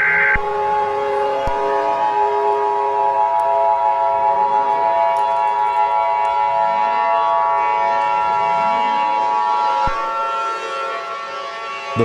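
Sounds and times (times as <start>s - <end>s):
harsh alarm tone: 0.0s - 12.0s.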